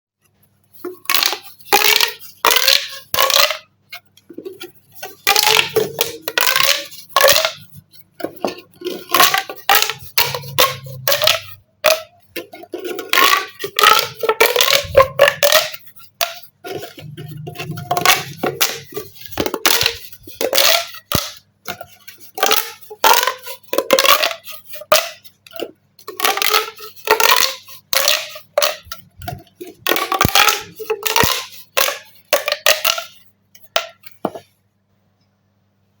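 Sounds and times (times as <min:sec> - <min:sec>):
plastic pop tubes popping: 0:00.8 - 0:34.5.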